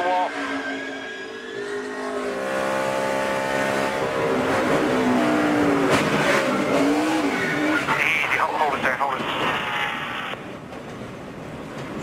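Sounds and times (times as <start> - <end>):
race car engine at speed: 0.0 - 10.5.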